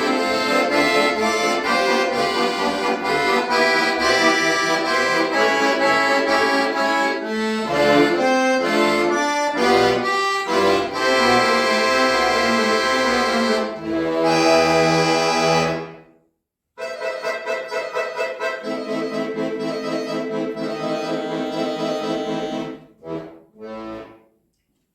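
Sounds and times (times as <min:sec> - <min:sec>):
accordion chords: 0:00.0 - 0:16.2, 0:16.8 - 0:24.4.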